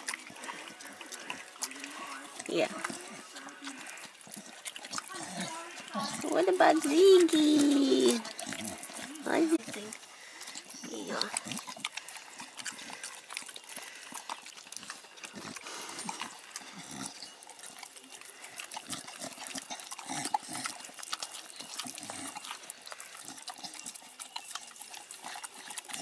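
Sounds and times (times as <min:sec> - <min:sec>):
dogs licking and chewing: 0:00.0 - 0:26.0.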